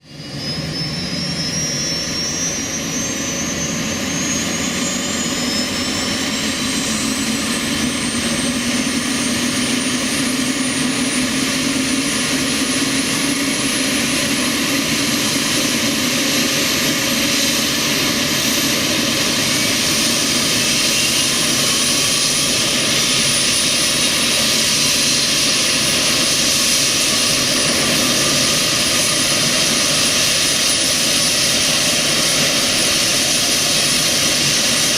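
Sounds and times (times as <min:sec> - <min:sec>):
helicopter turbine whine: 0:00.0 - 0:34.9.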